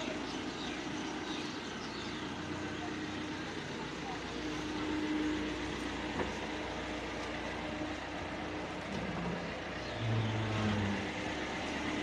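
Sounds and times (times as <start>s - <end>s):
car engine driving away: 0.0s - 12.0s.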